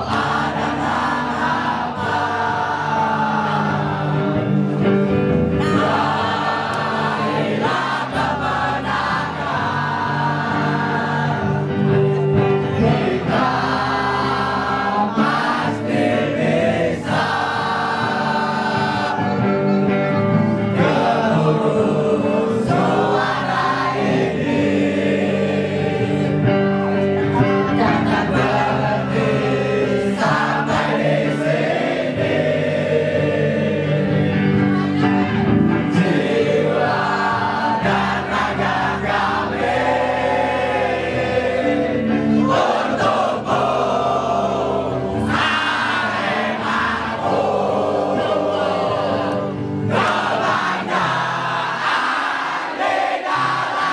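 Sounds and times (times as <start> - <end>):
group singing a slow song: 0.0 - 53.9
musical accompaniment: 0.0 - 53.9.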